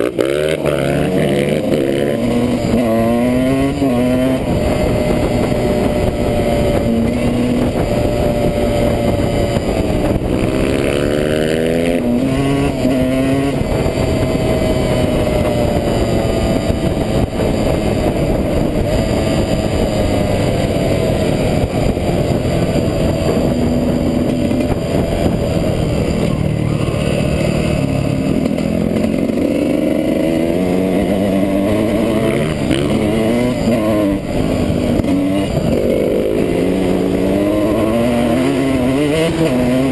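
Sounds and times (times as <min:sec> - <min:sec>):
dirt bike engine revving: 0:00.0 - 0:39.9
wind and ride noise: 0:00.0 - 0:39.9.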